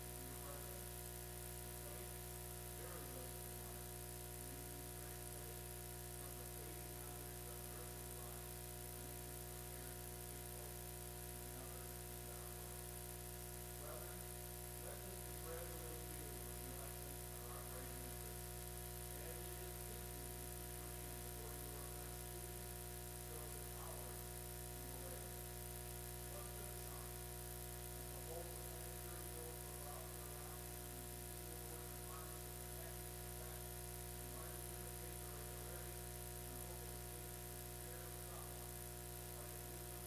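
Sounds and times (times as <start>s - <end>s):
electrical hum and buzz: 0.0s - 40.0s.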